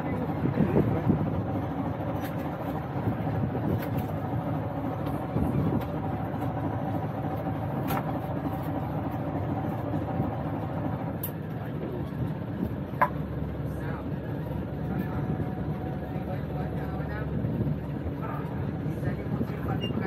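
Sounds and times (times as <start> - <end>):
boat engine hum: 0.0 - 20.0.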